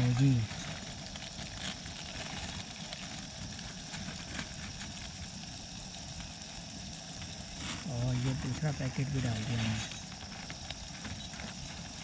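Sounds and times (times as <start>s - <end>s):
gas stove hissing: 0.0s - 12.0s
packet crinkling: 0.0s - 12.0s.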